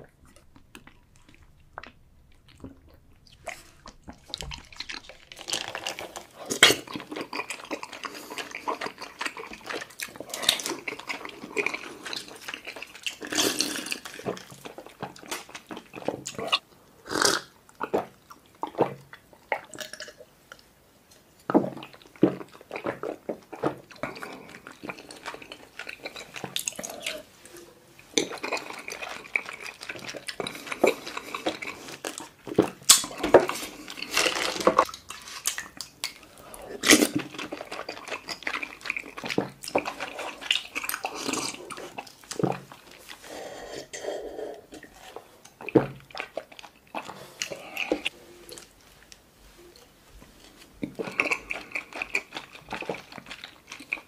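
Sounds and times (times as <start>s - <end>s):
slurping and gulping drink: 0.0s - 20.3s, 21.5s - 48.7s, 50.8s - 54.0s
wet chewing: 0.0s - 20.6s, 21.5s - 54.0s.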